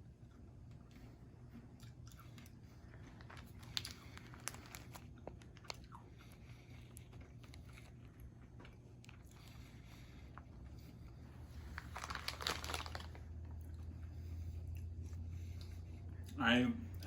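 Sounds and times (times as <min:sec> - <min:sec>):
low steady hum: 0:00.0 - 0:17.0
person chewing: 0:00.1 - 0:16.4.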